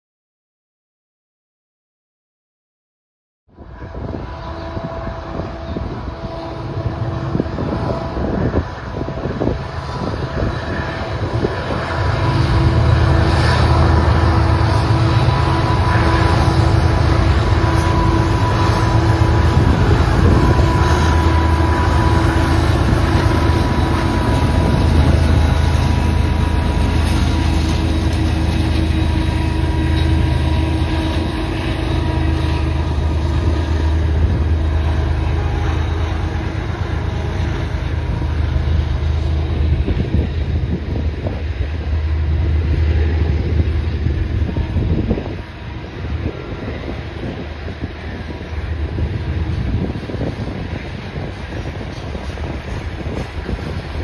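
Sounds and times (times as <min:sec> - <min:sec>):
diesel locomotive engine drone: 0:03.5 - 0:54.0
faint locomotive whine: 0:03.5 - 0:54.0
train wheels on rails: 0:03.7 - 0:54.0.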